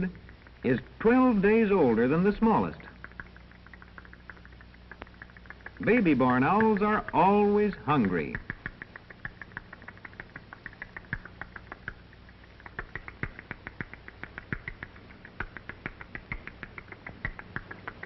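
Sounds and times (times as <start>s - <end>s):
film soundtrack clicks: 0.0s - 18.0s
low film soundtrack hum: 0.0s - 18.0s
owl nestlings peeping: 2.8s - 18.0s.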